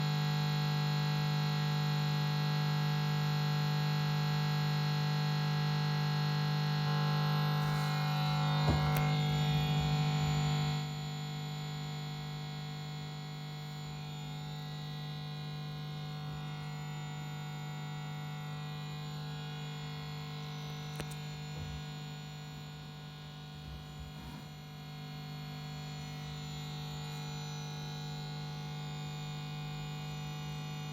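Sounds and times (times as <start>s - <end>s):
guitar amplifier hum-buzz: 0.0s - 30.9s.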